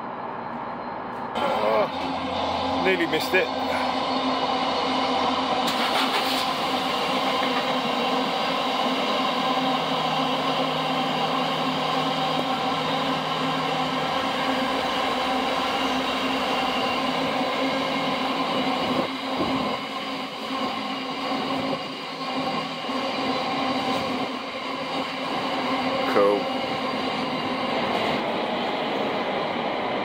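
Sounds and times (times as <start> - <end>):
constant whine: 0.0 - 30.0
passing train: 0.0 - 30.0.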